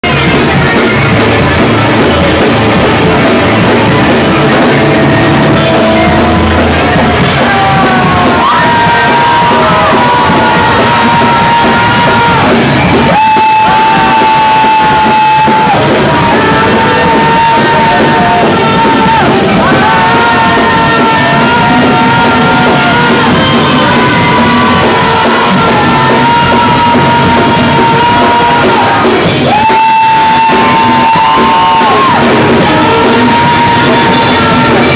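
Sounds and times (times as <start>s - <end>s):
punk rock band playing: 0.0s - 34.9s
yelled vocals: 0.0s - 34.9s.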